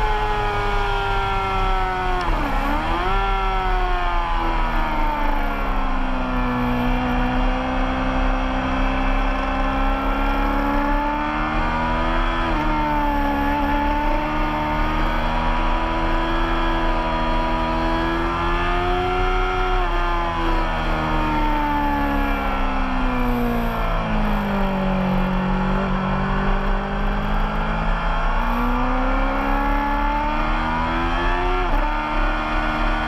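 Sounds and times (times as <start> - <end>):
racing motorcycle engine: 0.0 - 33.0.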